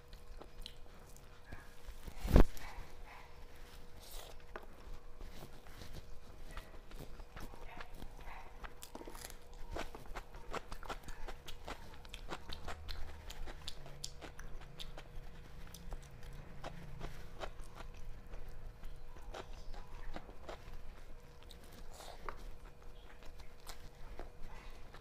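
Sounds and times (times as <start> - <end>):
chewing and lip smacks: 0.0 - 25.0.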